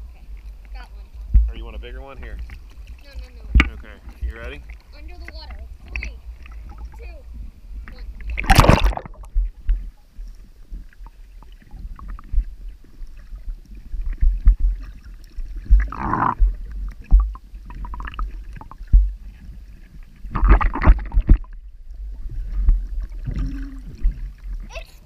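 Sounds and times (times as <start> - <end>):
muffled underwater rumbling: 0.0 - 25.0
water gurgling: 0.0 - 25.0.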